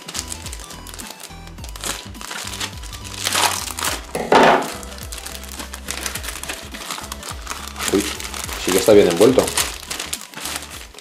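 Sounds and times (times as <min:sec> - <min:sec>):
background music: 0:00.0 - 0:11.0
knife cutting plastic: 0:00.0 - 0:11.0
plastic mailer bag crinkling: 0:00.0 - 0:11.0.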